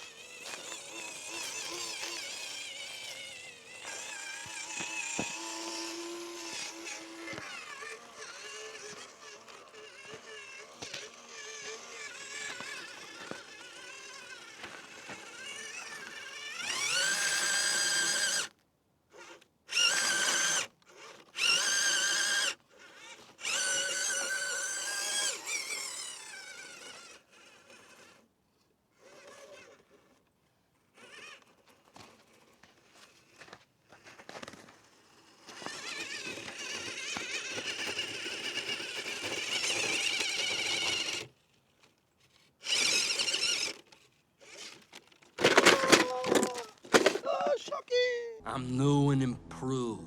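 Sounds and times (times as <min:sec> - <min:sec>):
rc car motor whining: 0:00.0 - 0:28.3, 0:28.9 - 0:48.4.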